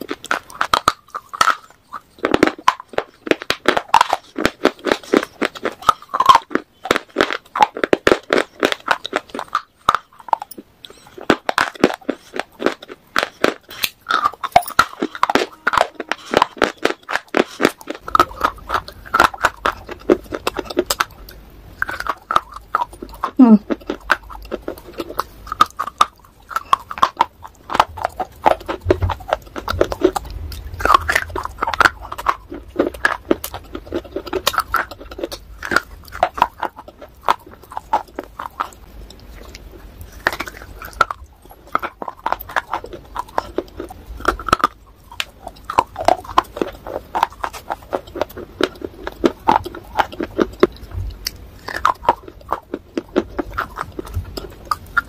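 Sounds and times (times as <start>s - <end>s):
crisp crunching bites: 0.0s - 55.0s.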